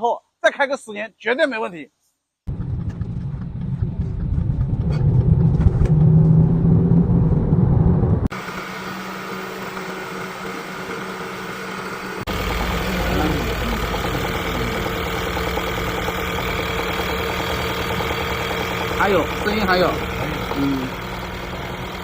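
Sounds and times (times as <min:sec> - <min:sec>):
car engine running: 0:02.5 - 0:22.0.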